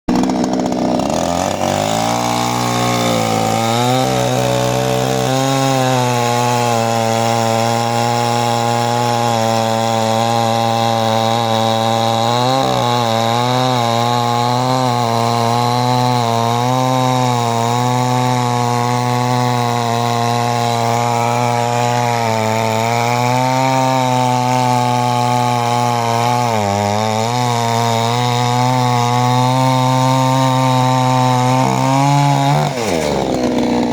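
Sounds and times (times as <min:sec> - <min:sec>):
chainsaw engine running: 0:00.1 - 0:33.9.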